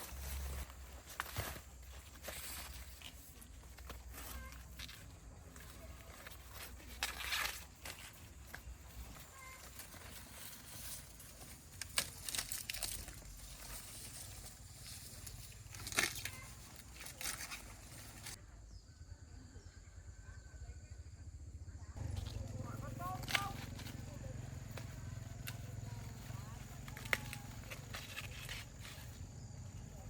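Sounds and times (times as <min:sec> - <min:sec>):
leaves rustling and tearing: 0:00.0 - 0:18.4, 0:22.0 - 0:29.9.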